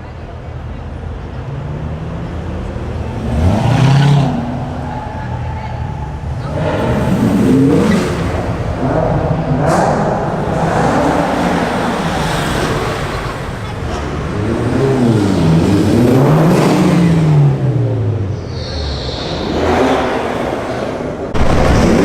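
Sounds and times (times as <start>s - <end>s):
car engine revving: 1.2s - 22.0s.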